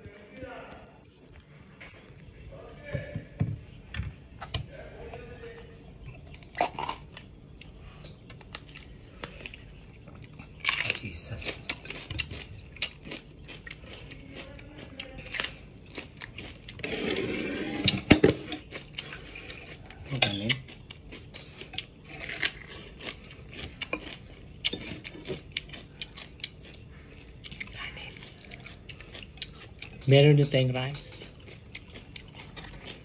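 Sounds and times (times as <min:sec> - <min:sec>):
crunching and chewing pepper: 0:05.3 - 0:33.0.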